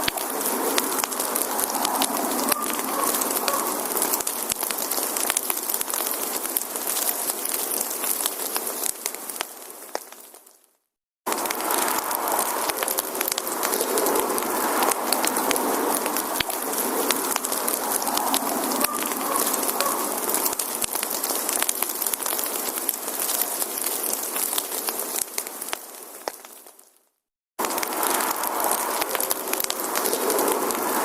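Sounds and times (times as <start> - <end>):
wood fire hissing: 0.0 - 10.6, 11.3 - 26.9, 27.6 - 31.0
logs popping and crackling: 0.0 - 31.0.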